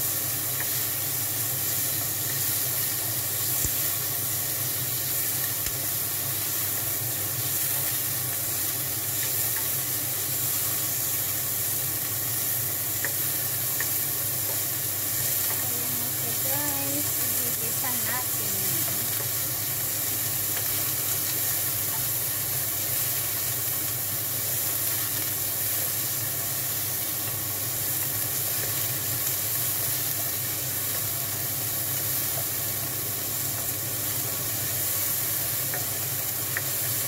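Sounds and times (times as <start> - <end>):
exhaust fan hum: 0.0 - 31.9
meat sizzling in oil: 0.0 - 37.0.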